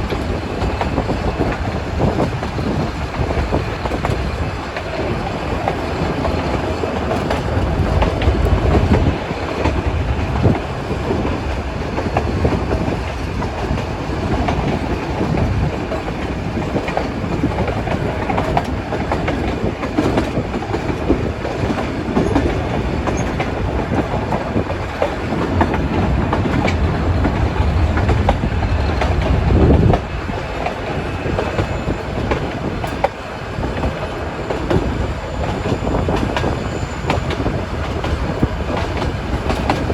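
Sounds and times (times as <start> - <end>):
train carriages rumbling and rattling: 0.0 - 39.9.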